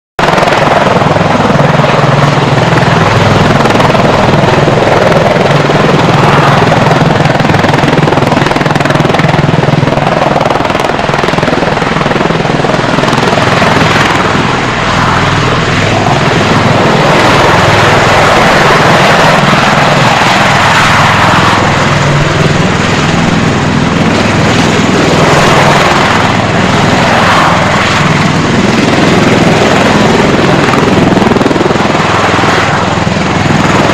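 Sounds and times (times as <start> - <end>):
tiltrotor aircraft rotor throb: 0.2 - 33.9.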